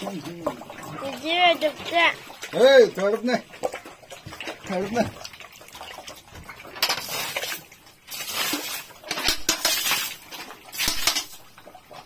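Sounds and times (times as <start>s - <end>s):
water splashing on concrete: 0.0s - 12.0s.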